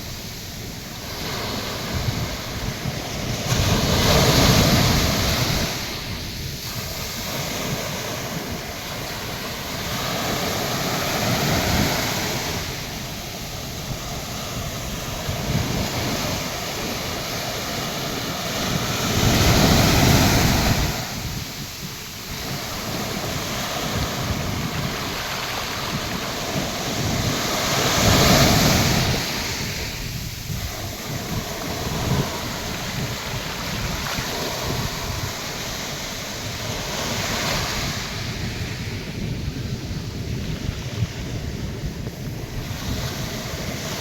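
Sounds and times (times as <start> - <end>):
surf waves breaking: 0.0 - 44.0
wind rumble on microphone: 0.0 - 44.0.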